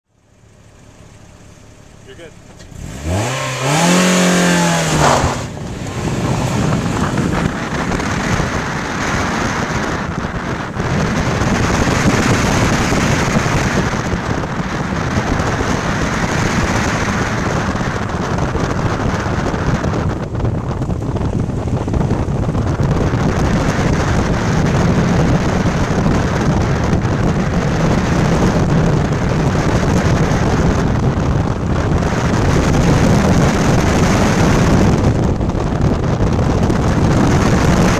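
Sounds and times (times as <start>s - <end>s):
faint car engine: 0.0s - 37.9s
wind buffeting microphone: 0.4s - 37.9s.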